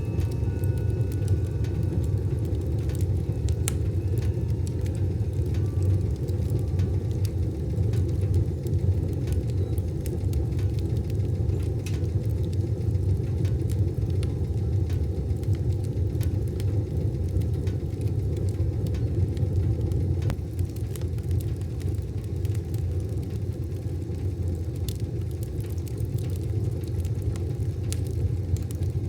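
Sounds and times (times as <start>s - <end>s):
wood fire crackling in stove: 0.0s - 29.0s.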